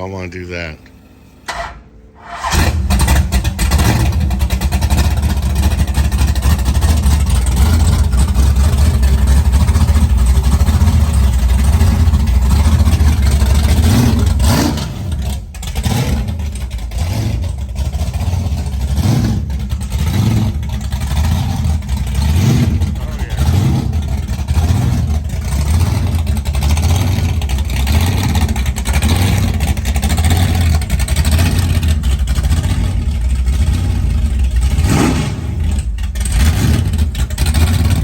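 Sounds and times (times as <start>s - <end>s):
engine revving: 1.6s - 38.0s
car engine running loud: 2.4s - 38.0s.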